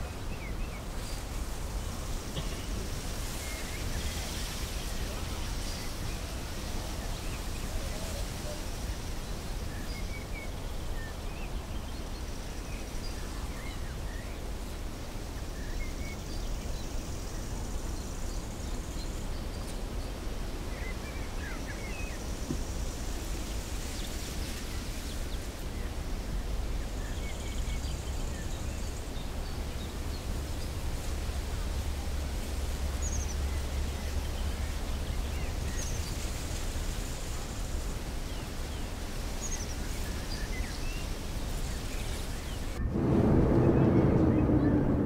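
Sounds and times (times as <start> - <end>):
low rumble and hiss: 0.0 - 45.0.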